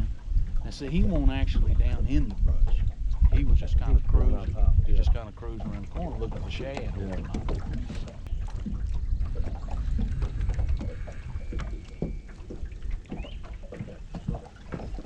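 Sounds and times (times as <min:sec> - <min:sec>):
small knocks from boat: 0:00.0 - 0:15.0
water splashes: 0:00.0 - 0:15.0
wind rumble on microphone: 0:00.0 - 0:15.0.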